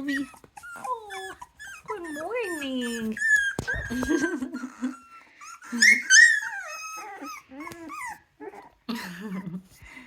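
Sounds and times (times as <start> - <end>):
puppies squeaking and whining: 0.0 - 9.8.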